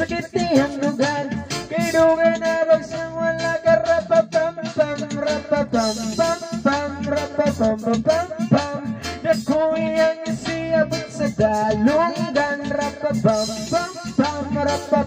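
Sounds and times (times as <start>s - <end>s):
guitar and steady beat: 0.0s - 15.0s
person singing: 0.0s - 15.0s.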